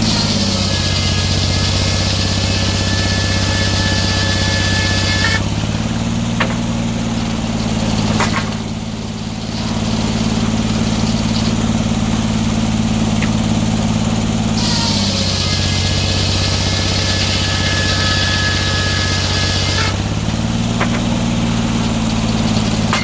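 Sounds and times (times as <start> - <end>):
sawmill engine running: 0.0 - 23.0.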